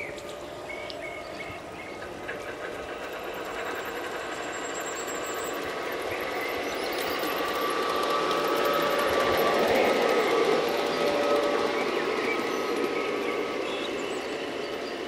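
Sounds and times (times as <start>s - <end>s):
model train wheels clicking on rails: 0.0s - 15.0s.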